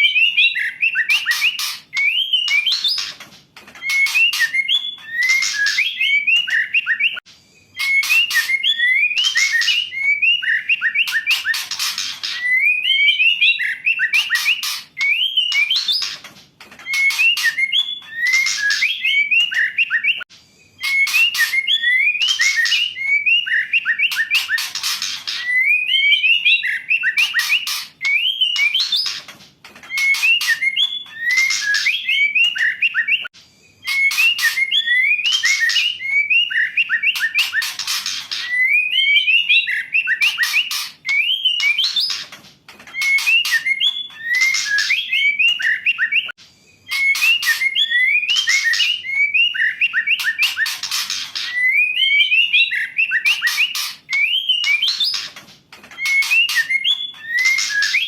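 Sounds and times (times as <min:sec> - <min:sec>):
bird whistling and rasping: 0:00.0 - 0:58.0.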